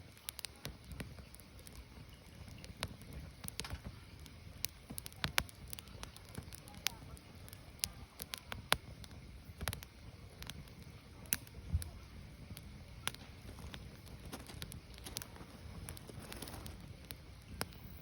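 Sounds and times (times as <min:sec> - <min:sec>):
firewood crackling and popping: 0:00.0 - 0:18.0
low rumble of fire: 0:00.0 - 0:18.0.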